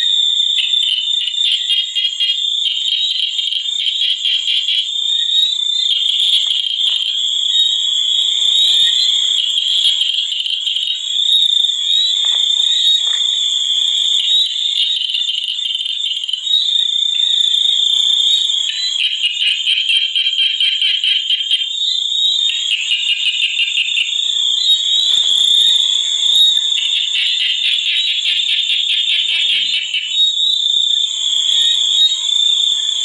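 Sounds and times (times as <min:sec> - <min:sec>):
rapid pulsing frog calls: 0:00.0 - 0:33.0.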